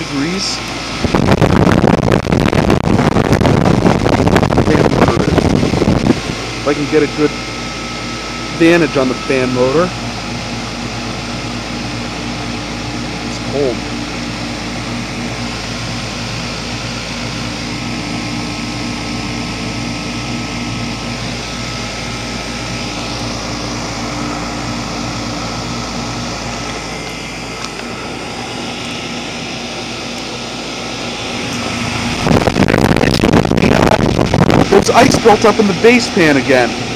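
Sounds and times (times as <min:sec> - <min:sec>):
fan air rushing: 0:00.0 - 0:36.9
heat pump compressor hum: 0:00.0 - 0:36.9.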